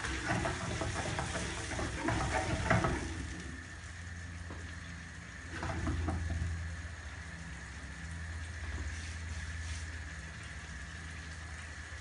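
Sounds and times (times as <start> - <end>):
pots bubbling on a hob: 0.0 - 12.0
steady low hum: 0.0 - 12.0.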